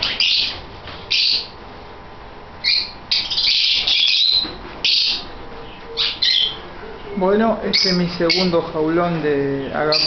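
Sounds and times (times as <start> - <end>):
lovebirds chirping: 0.0 - 1.6, 2.6 - 10.0.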